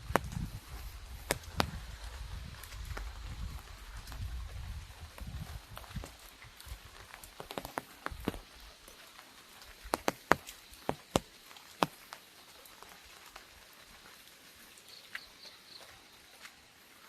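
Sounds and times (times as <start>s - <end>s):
raindrops tapping on umbrella: 0.0s - 16.6s
light rain hiss: 0.0s - 17.0s.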